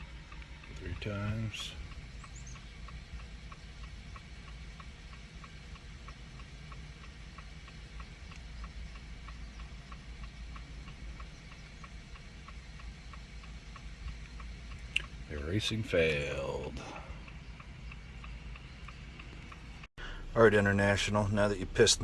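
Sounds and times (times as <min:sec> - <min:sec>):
electronic ticking: 0:00.0 - 0:22.0
low hum: 0:00.0 - 0:22.0.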